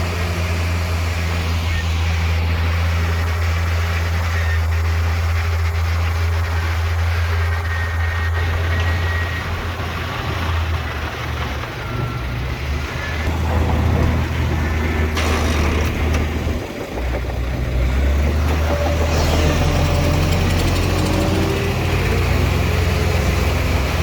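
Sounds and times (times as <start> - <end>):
heavy diesel machinery rumbling: 0.0 - 24.0.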